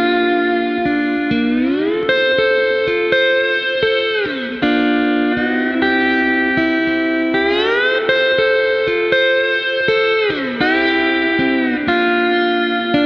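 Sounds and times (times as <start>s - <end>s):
hawaiian slide guitar chords: 0.0s - 13.0s.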